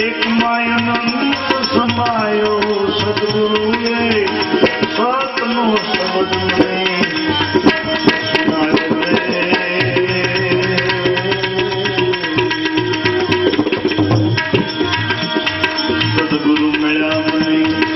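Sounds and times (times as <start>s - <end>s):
tabla rhythm: 0.0s - 17.9s.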